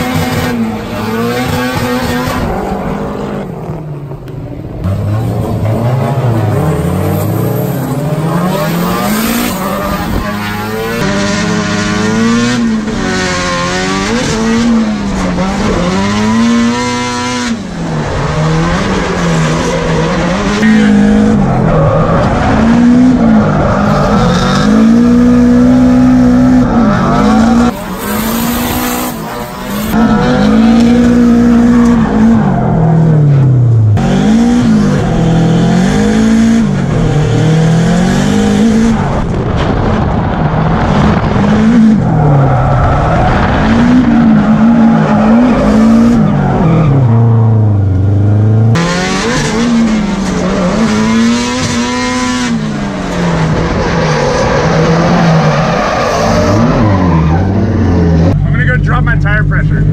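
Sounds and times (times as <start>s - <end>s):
car engine revving hard: 4.8s - 59.9s.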